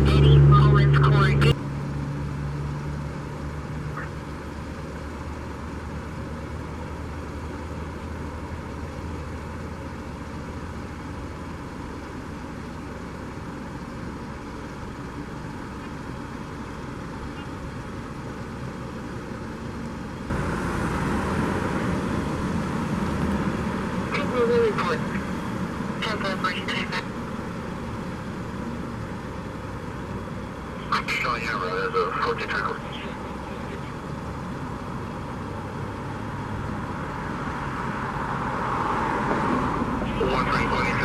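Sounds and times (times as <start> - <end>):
low hum: 0.0 - 41.0
vehicle engine and road noise: 0.0 - 41.0.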